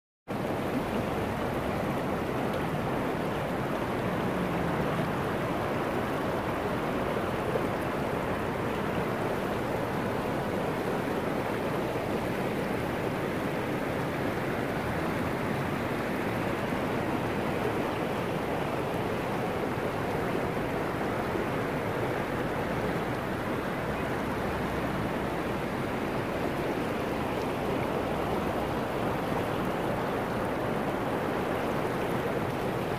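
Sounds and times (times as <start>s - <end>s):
river rushing over boulders: 0.3s - 32.9s.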